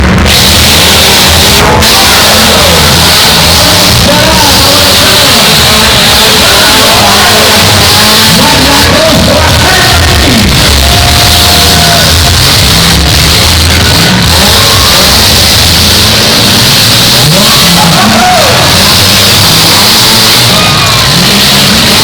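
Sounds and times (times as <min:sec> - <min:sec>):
car engines revving loudly: 0:00.0 - 0:22.0
music: 0:00.0 - 0:22.0.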